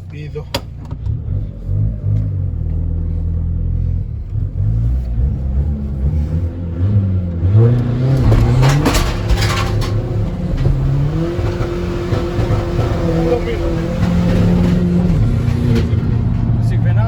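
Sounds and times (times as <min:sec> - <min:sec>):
diesel engine accelerating: 0:00.0 - 0:17.0.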